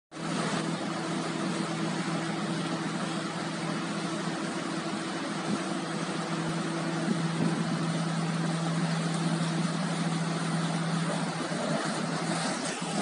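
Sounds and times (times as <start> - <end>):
boat engine humming: 0.1 - 13.0.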